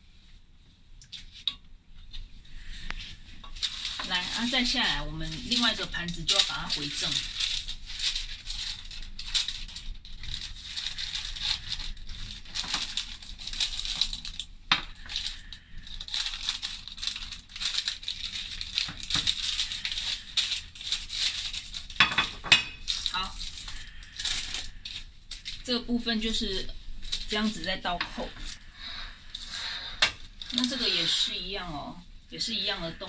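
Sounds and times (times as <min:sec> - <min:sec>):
baking paper crinkling: 0:01.2 - 0:33.0.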